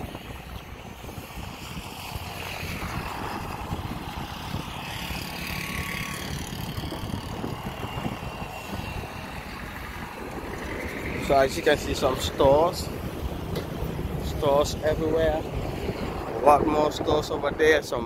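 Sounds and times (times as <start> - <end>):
road traffic on dirt road: 0.0 - 18.0
wind rumbling on microphone: 0.0 - 18.0
car passing close: 0.8 - 17.6.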